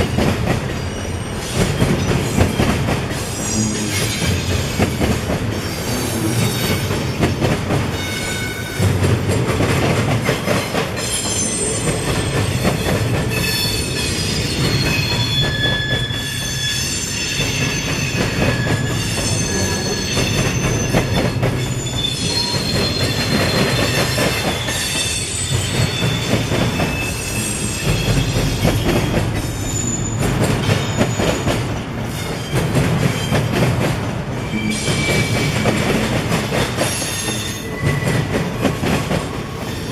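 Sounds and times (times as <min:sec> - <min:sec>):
train wheels squealing: 0:00.0 - 0:09.0, 0:10.2 - 0:33.8, 0:34.4 - 0:39.9
wheels rumbling on rails: 0:00.0 - 0:39.9.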